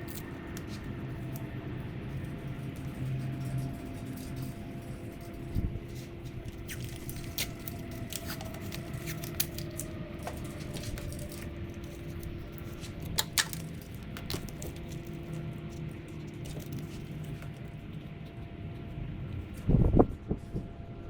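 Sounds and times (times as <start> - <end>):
clicks and rustles of wiring: 0.0 - 20.6
steady low hum: 0.0 - 21.0.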